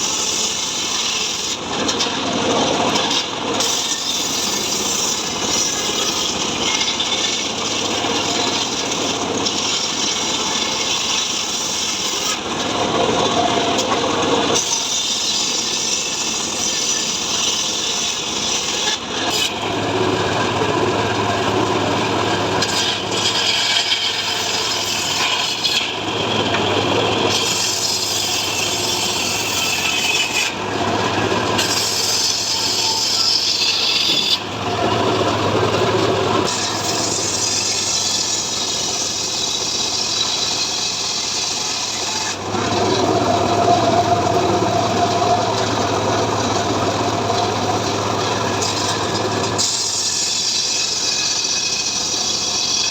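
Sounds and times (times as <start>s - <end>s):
saw rasping through wood: 0.0s - 52.9s
chainsaw engine drone: 4.2s - 52.8s.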